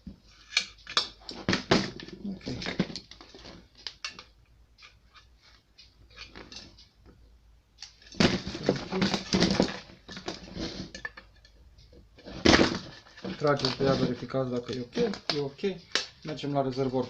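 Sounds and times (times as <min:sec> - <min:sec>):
hands handling plastic parts: 0:00.0 - 0:07.2, 0:07.8 - 0:17.0.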